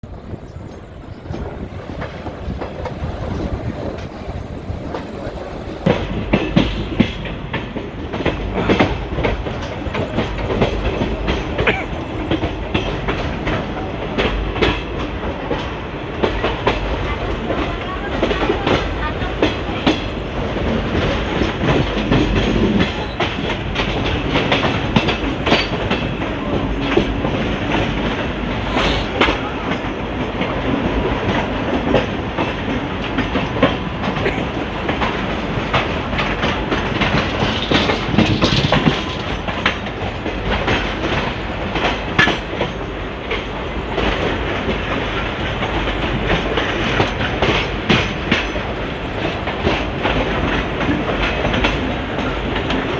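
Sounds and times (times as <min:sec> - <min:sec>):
train wheels rumbling on rail: 0:00.0 - 0:52.9
wheels clacking over rail joints: 0:00.0 - 0:52.9.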